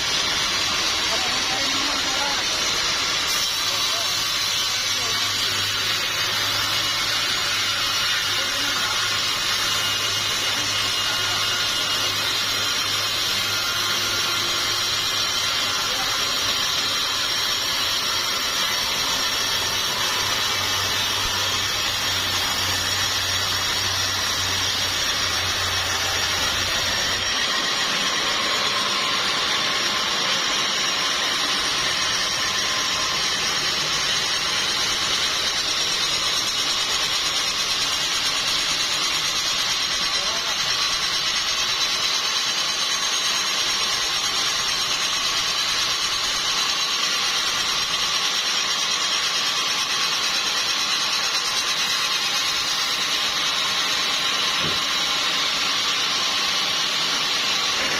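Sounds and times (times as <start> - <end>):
high mechanical sawmill noise: 0.0 - 57.9.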